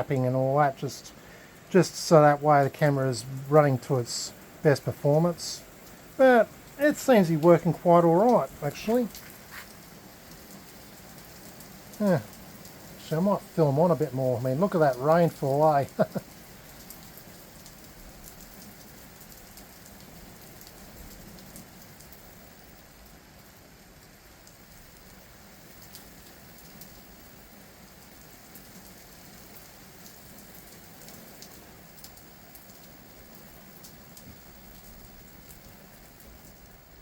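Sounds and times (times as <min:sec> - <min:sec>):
heavy rain: 0:00.0 - 0:37.0.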